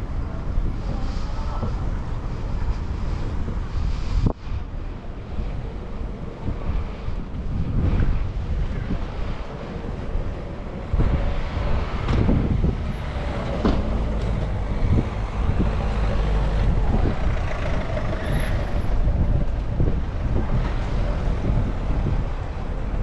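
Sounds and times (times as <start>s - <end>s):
heavy vehicle rumbling: 0.0s - 23.0s.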